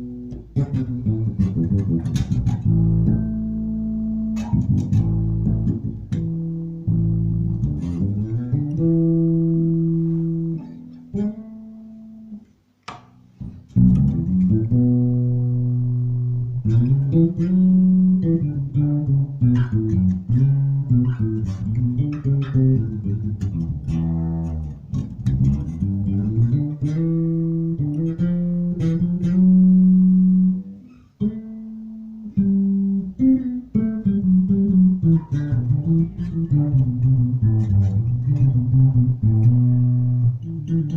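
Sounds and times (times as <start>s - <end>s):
electric bass guitar plucked: 0.0s - 40.9s.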